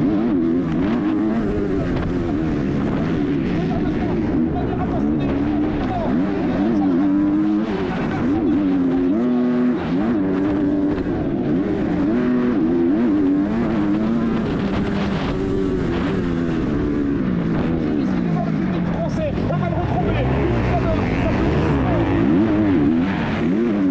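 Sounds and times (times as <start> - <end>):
motocross bike engine revving: 0.0 - 23.9.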